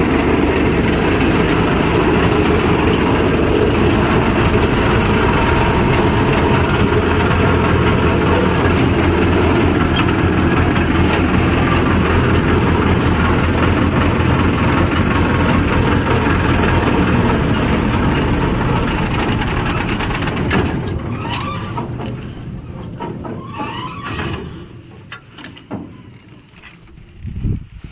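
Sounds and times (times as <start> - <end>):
harvester engine humming: 0.0 - 27.1.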